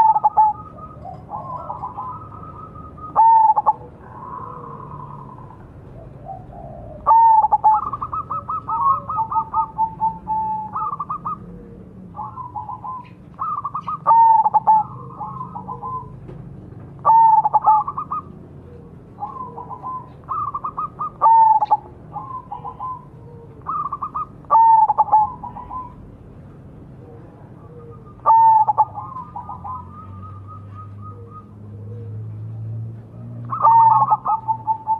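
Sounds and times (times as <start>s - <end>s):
dove cooing: 0.0s - 16.4s, 17.0s - 26.1s, 26.7s - 34.9s.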